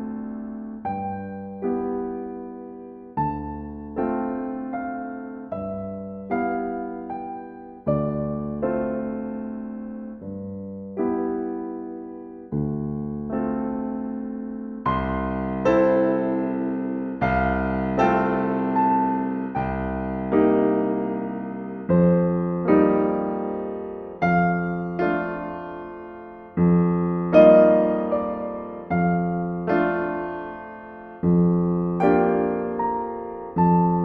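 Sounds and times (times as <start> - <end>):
slow solo piano: 0.0 - 34.0.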